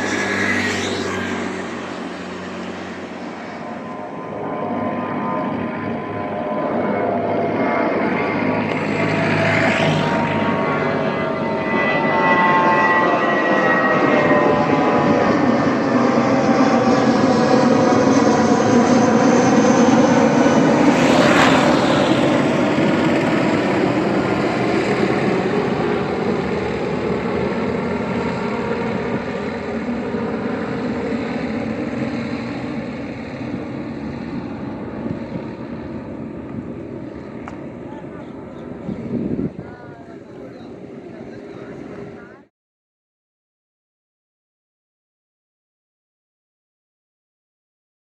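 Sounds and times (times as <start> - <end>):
jet engines roaring: 0.0 - 42.4.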